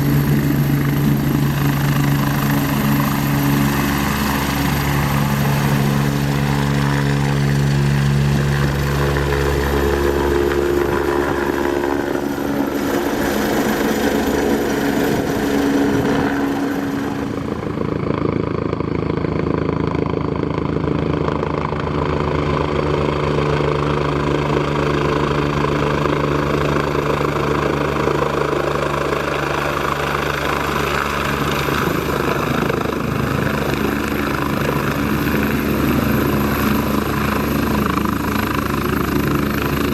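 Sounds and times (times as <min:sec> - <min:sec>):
model helicopter motor and rotors: 0:00.0 - 0:39.9.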